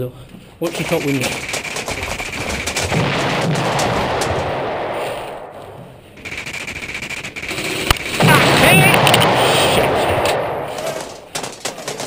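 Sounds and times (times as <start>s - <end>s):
airsoft guns firing in bursts: 0.7s - 5.3s, 6.2s - 12.0s.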